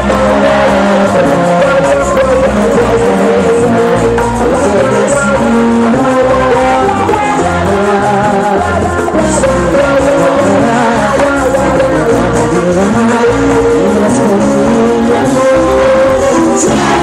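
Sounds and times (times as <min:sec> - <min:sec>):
live cumbia band playing: 0:00.0 - 0:17.0
person singing: 0:00.0 - 0:17.0.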